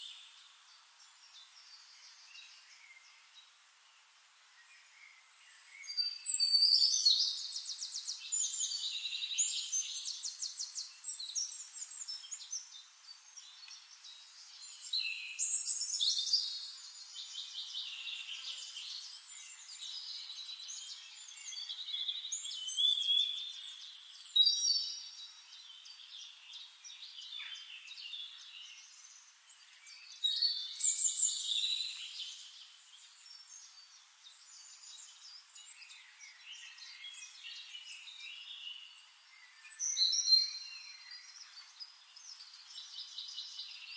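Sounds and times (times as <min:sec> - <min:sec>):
songbirds warbling and trilling: 0:00.0 - 0:43.9.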